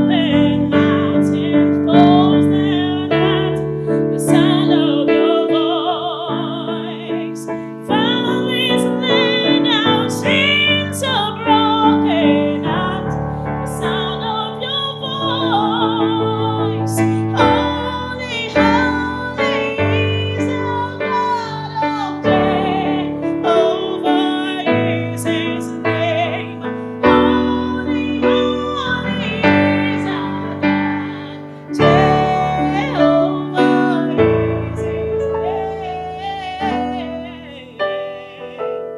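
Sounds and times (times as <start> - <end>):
person singing: 0.0 - 38.9
piano accompaniment: 0.0 - 38.9.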